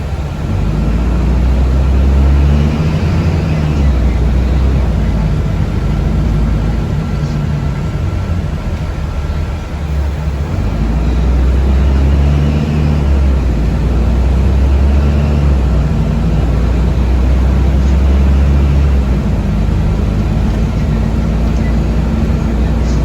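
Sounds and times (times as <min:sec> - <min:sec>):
vehicle rumble inside cabin: 0:00.0 - 0:23.0.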